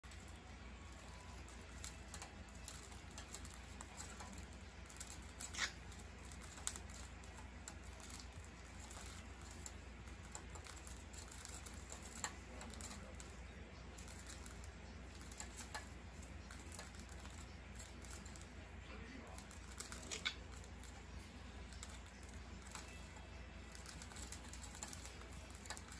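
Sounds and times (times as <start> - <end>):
beaks clacking and pecking: 0.0 - 25.9.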